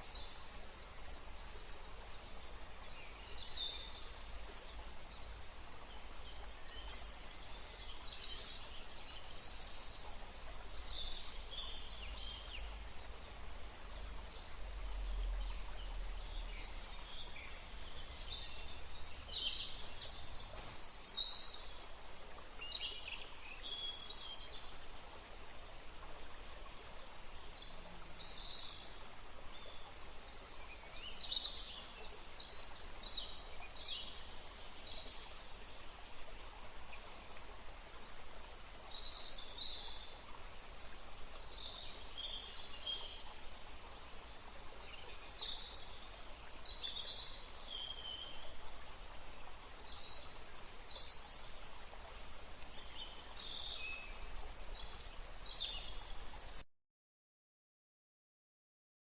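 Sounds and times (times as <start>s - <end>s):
flowing river water: 0.0s - 56.6s.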